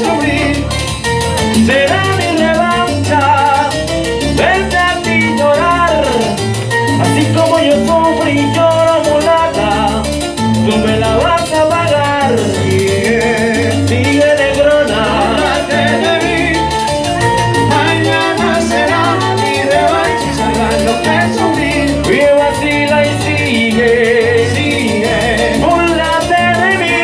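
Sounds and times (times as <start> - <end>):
salsa band over loudspeakers: 0.0 - 27.0.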